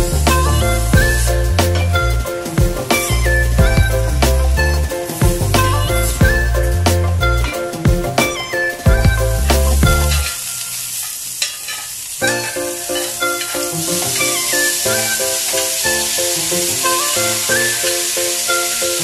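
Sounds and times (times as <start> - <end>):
background music: 0.0 - 10.4, 12.2 - 19.0
butter sizzling on a hot plate: 0.0 - 19.0.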